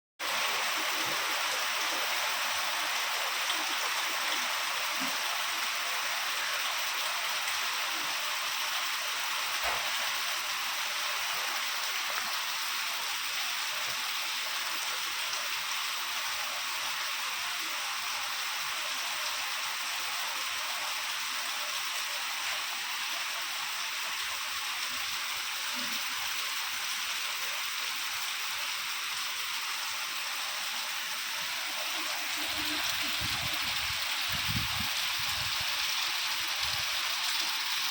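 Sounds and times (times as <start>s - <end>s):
steady rain falling: 0.2s - 37.9s.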